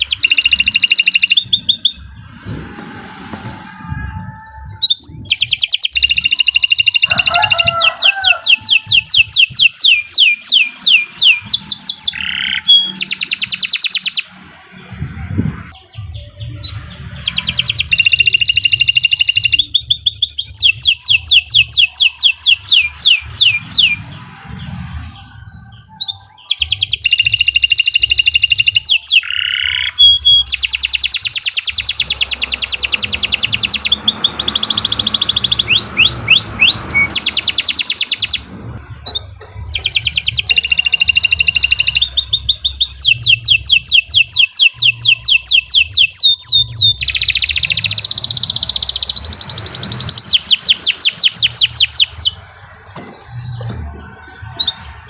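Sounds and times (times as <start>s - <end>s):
canary singing trills: 0.0s - 2.4s, 3.9s - 55.0s.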